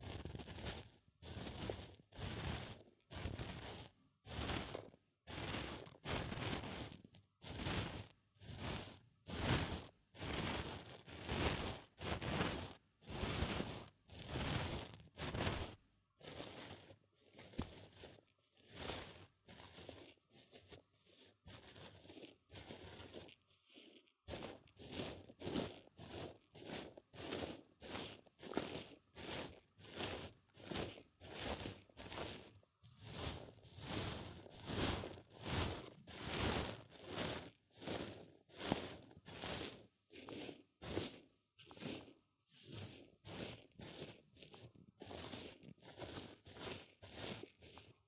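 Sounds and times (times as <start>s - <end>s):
grits rustling and crunching: 0.0s - 48.0s.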